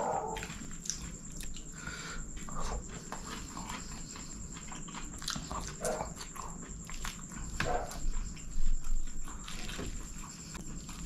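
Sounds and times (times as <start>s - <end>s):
person chewing: 0.1s - 11.0s.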